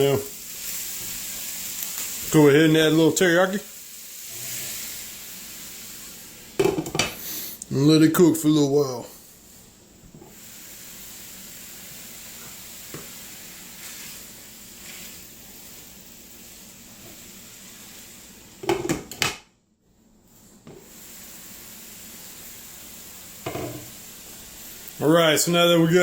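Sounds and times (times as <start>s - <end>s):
meat sizzling in a skillet: 0.0s - 7.6s, 8.2s - 19.4s, 20.3s - 26.0s.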